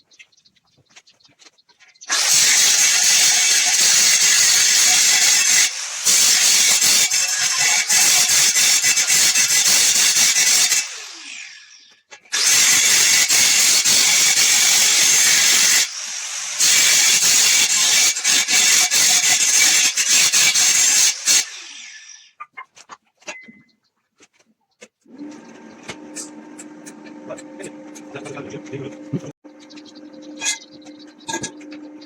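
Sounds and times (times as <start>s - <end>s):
power tool running: 2.1s - 22.2s, 25.1s - 32.0s.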